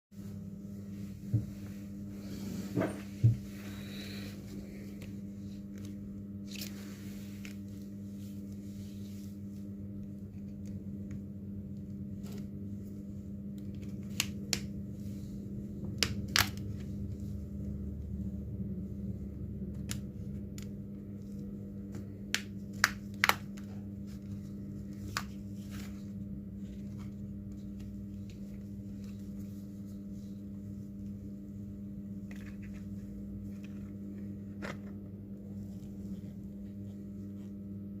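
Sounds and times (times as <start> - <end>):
low electrical hum: 0.2 - 38.0.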